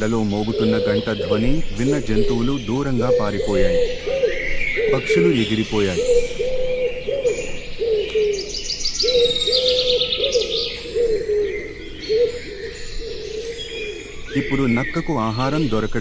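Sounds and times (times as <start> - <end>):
bird cooing: 0.0 - 16.0
birds chirping trills: 0.0 - 16.0.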